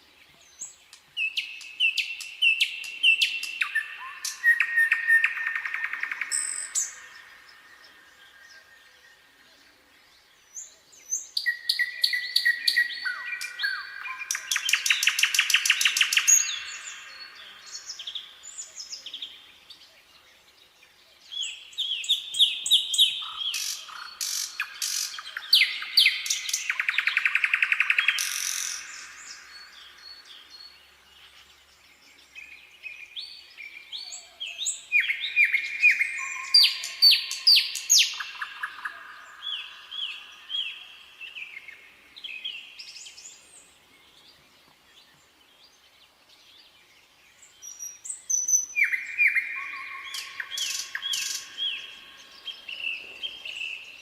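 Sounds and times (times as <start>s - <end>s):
nightingale singing: 0.0s - 54.0s.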